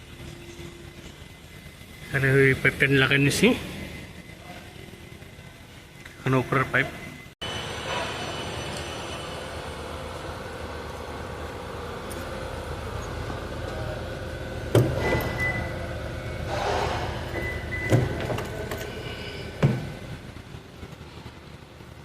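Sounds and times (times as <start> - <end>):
workshop hum: 0.0 - 22.0.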